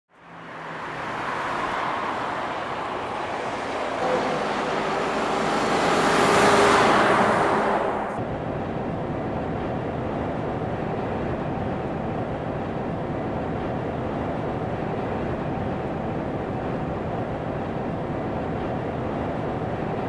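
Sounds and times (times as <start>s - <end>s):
road vehicle noise: 0.1s - 20.0s.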